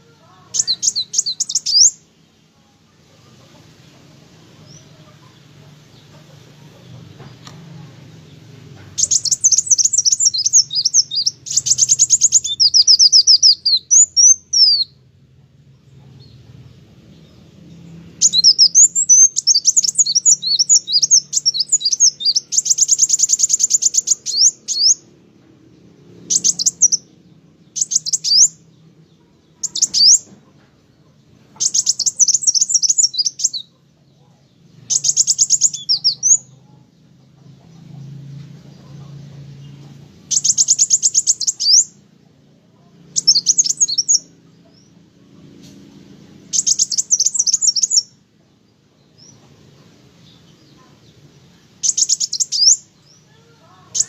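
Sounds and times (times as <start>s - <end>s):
bird trilling and twittering: 0.0s - 2.1s, 4.4s - 15.0s, 16.2s - 48.2s, 49.0s - 54.0s.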